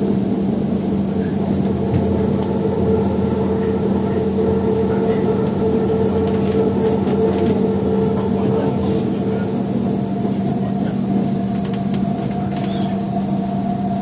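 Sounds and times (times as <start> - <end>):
train traction hum: 0.0 - 14.0
wheels rumbling on rails: 0.0 - 14.0.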